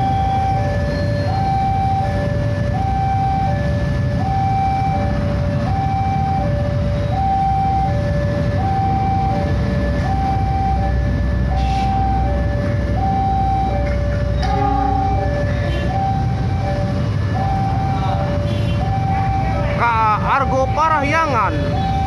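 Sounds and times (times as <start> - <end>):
passenger train crossing: 0.0 - 20.8
level crossing two-tone alarm: 0.0 - 22.0.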